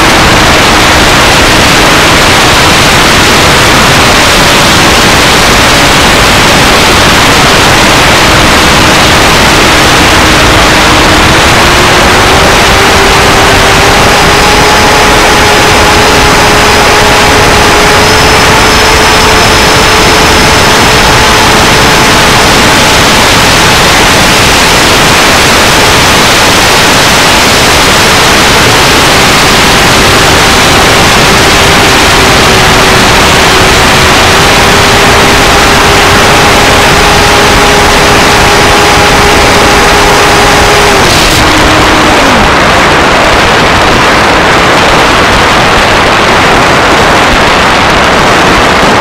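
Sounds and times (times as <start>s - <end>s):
jet fan whine: 0.0s - 49.0s
rush of wind: 0.0s - 49.0s.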